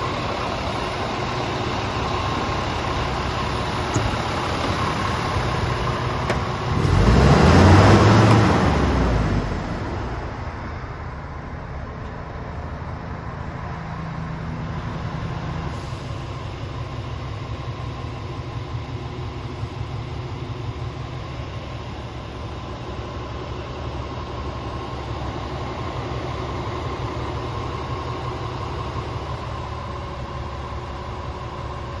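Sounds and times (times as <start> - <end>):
diesel engine revving and idling: 0.0 - 32.0.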